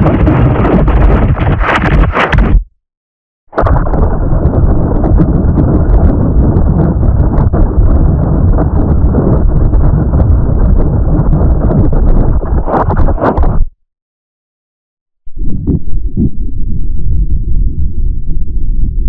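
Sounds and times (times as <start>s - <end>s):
distorted rumbling noise with ticks: 0.0s - 2.6s, 3.6s - 13.7s, 15.3s - 19.0s.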